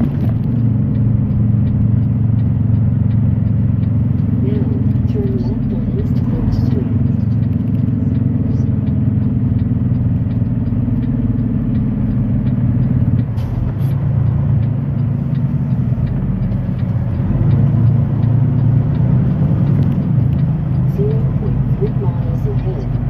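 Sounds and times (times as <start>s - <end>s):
truck engine running: 0.0s - 23.0s
turn signal ticking: 0.0s - 23.0s.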